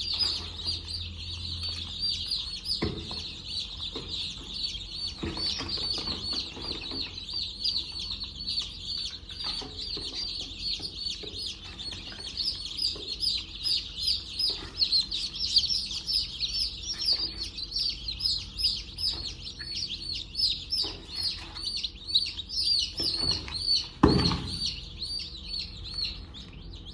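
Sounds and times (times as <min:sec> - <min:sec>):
chicks peeping: 0:00.0 - 0:26.9.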